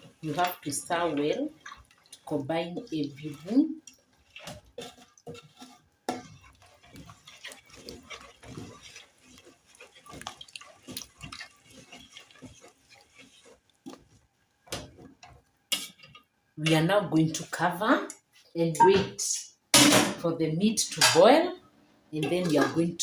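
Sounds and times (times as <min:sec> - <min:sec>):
spoon stirring thick stew: 0:00.0 - 0:19.1, 0:22.2 - 0:23.0.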